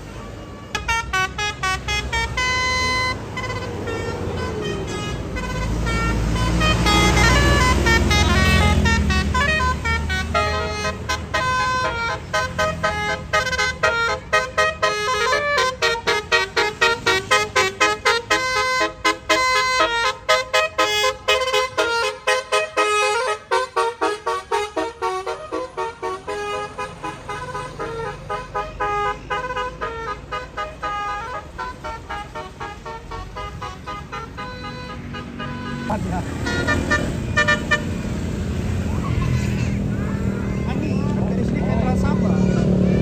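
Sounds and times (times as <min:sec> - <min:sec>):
bus engine: 0:00.0 - 0:43.0
bus horn playing melody: 0:00.0 - 0:43.0.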